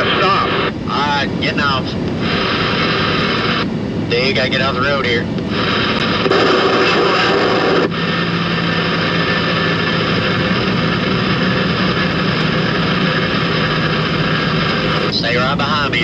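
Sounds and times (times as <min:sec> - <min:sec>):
road noise: 0:00.0 - 0:16.0
truck engine drone: 0:00.0 - 0:16.0.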